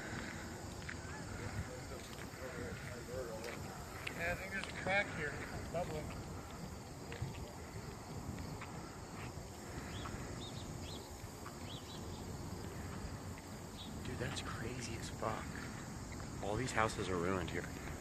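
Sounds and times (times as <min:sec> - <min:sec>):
steady low outdoor noise: 0:00.0 - 0:18.0.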